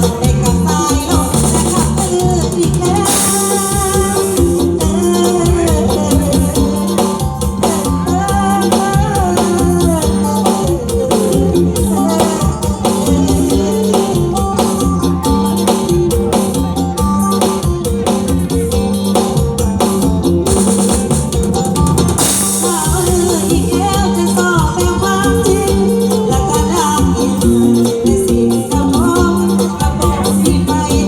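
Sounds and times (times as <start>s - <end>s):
band music: 0.0s - 31.0s
lead melody with bending notes: 0.0s - 31.0s
steady drumbeat: 0.0s - 31.0s.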